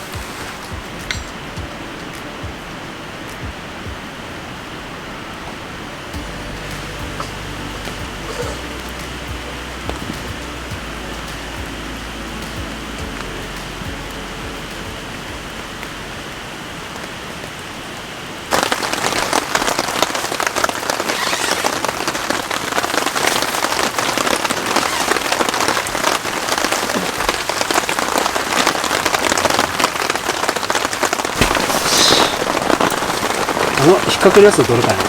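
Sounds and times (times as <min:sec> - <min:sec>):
heavy rain on surfaces: 0:00.0 - 0:35.0.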